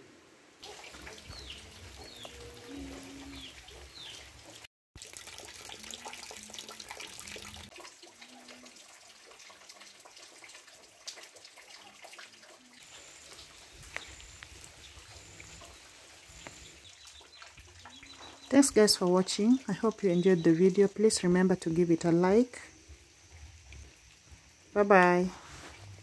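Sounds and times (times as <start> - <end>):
rain splashing into puddles: 0.6 - 21.7.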